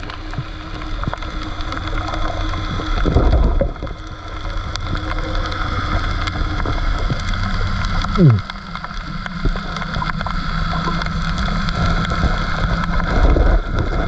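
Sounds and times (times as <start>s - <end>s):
faint steady hum: 0.0s - 14.0s
low underwater rumble: 0.0s - 14.0s
underwater clicks and crackles: 0.0s - 14.0s.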